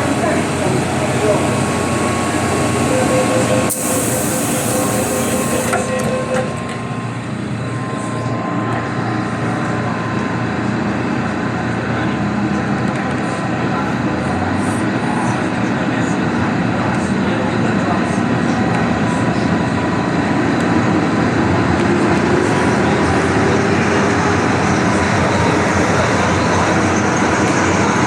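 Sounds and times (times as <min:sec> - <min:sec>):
train running rumble: 0:00.0 - 0:28.0.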